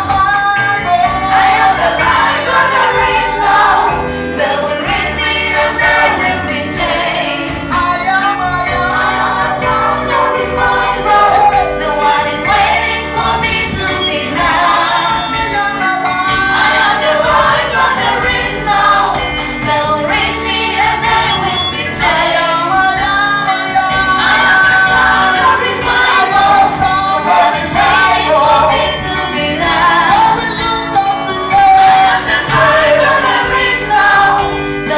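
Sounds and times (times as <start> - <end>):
group singing gospel music: 0.0 - 34.9
musical accompaniment: 0.0 - 34.9.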